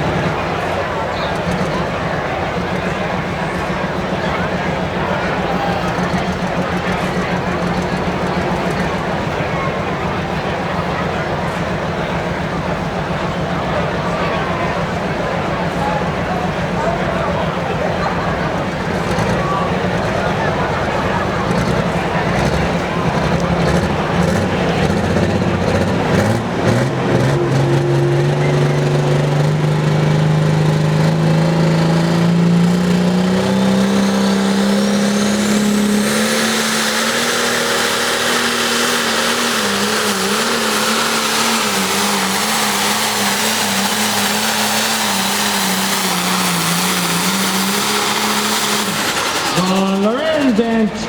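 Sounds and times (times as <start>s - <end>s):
diesel tractor engine at full throttle: 0.0s - 51.0s.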